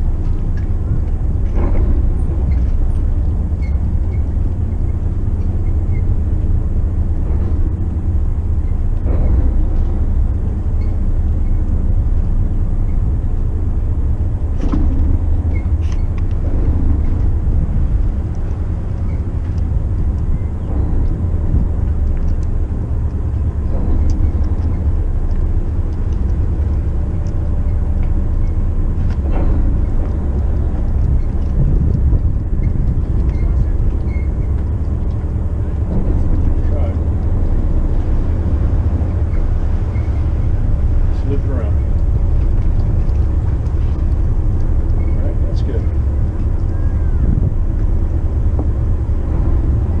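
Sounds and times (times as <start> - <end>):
low boat engine rumble: 0.0 - 50.0.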